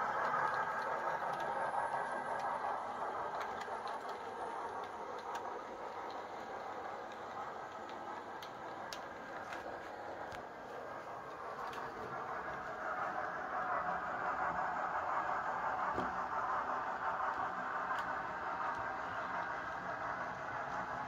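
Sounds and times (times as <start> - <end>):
faint clicks over rails: 0.0 - 21.0
model train rolling on track: 0.0 - 21.0.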